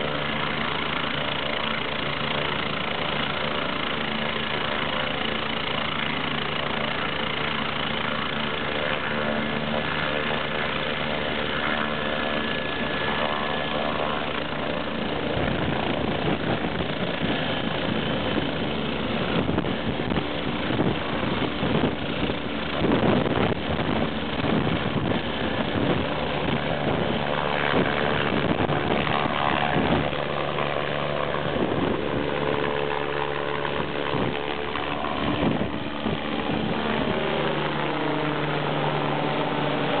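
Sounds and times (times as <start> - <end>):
helicopter rotor beat: 0.0 - 40.0
helicopter turbine whine: 0.0 - 40.0.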